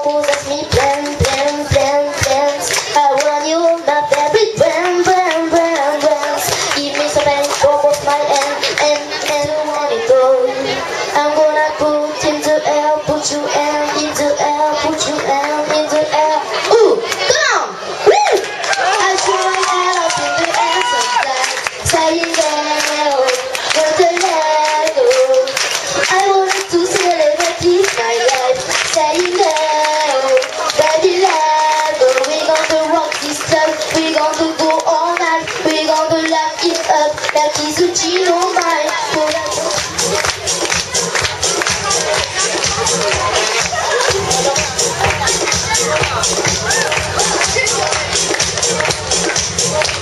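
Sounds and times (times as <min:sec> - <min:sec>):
audience clapping along: 0:00.0 - 0:09.8, 0:18.4 - 0:50.0
girl singing into microphone: 0:00.0 - 0:17.1, 0:18.9 - 0:42.8
backing music: 0:00.0 - 0:17.2, 0:18.5 - 0:50.0.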